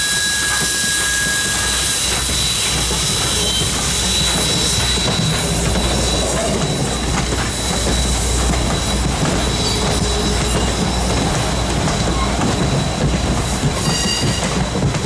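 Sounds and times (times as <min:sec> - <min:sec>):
high-pitched wheel squeal: 0:00.0 - 0:13.1, 0:13.8 - 0:14.6
low train rumble: 0:00.0 - 0:15.0
wheels clacking over rail joints: 0:00.0 - 0:15.0.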